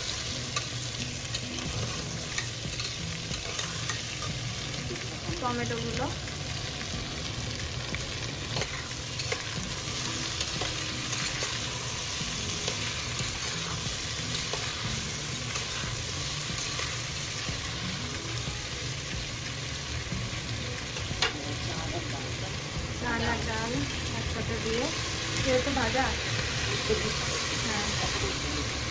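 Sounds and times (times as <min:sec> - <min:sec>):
vegetables sizzling in oil: 0:00.0 - 0:28.9.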